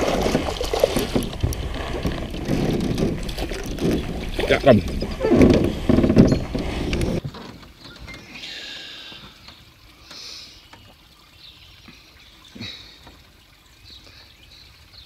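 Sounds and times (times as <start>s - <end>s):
water splashing and sloshing: 0.0s - 15.0s
water trickling and dripping: 0.0s - 15.0s.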